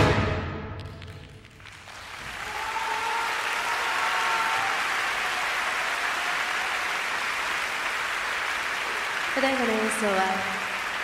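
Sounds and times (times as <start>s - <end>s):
large audience applauding: 0.8s - 11.0s.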